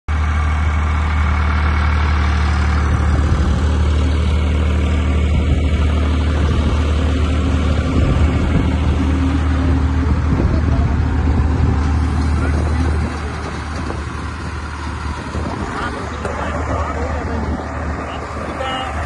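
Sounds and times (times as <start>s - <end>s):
tractor diesel engine droning: 0.1s - 19.0s.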